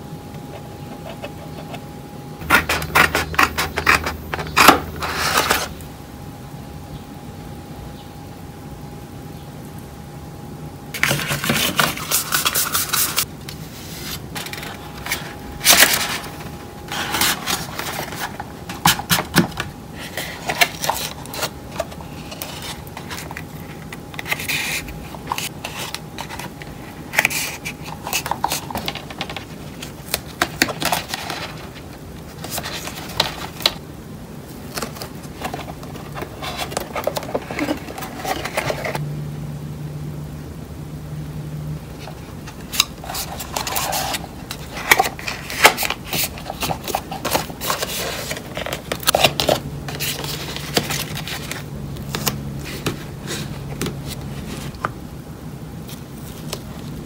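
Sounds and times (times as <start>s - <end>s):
cardboard crinkling and scraping: 0.4s - 5.8s, 11.0s - 33.8s, 34.5s - 39.0s, 41.9s - 55.0s, 55.8s - 57.0s.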